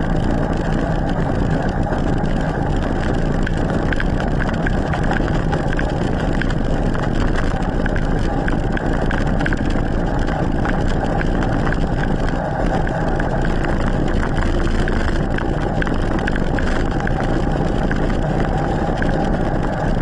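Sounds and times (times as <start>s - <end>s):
bike rattling: 0.0s - 20.0s
tyre rumble on asphalt: 0.0s - 20.0s
wind rushing over microphone: 0.0s - 20.0s.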